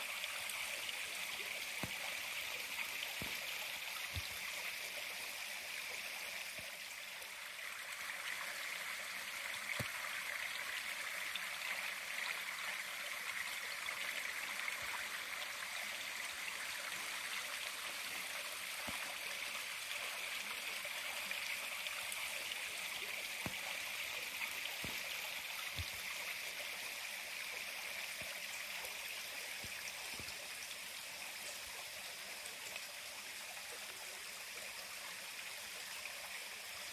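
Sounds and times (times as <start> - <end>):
creek flowing over rocks: 0.0 - 36.9.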